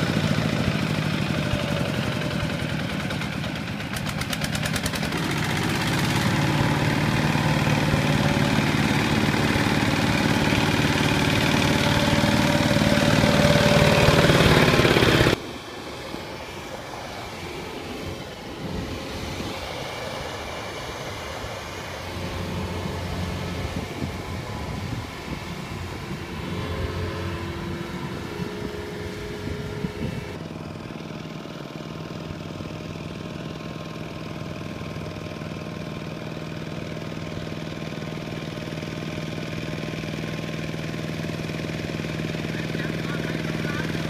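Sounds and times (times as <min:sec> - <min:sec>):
diesel machinery engine: 0:00.0 - 0:44.0
walking tractor diesel engine: 0:00.0 - 0:44.0.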